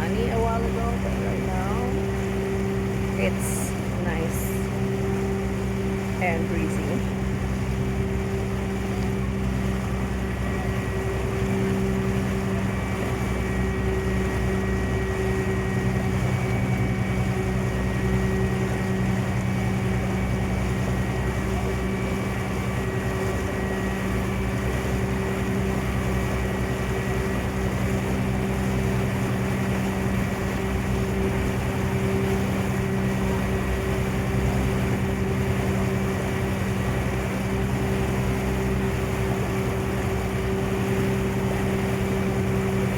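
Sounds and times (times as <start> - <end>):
ferry engine humming: 0.0 - 42.9.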